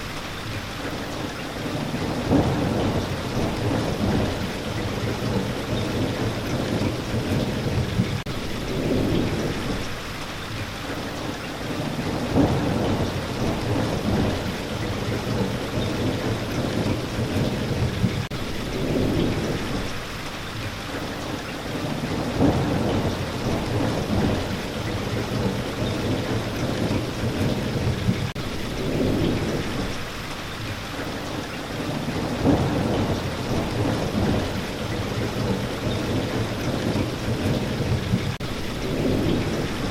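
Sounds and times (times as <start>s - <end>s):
steady rain: 0.0s - 39.9s
low rumbles of thunder: 1.6s - 10.1s, 11.5s - 20.7s, 21.6s - 39.9s.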